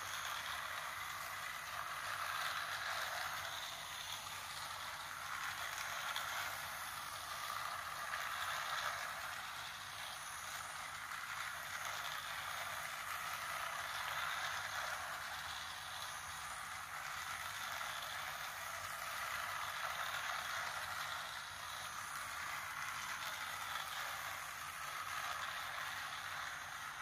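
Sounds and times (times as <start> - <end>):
toy train whirring on track: 0.0 - 27.0.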